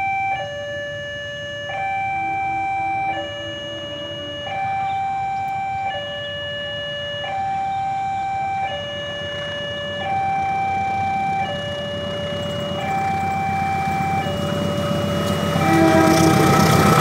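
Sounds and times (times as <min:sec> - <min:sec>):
level crossing two-tone alarm: 0:00.0 - 0:17.0
diesel locomotive rumble: 0:02.1 - 0:17.0.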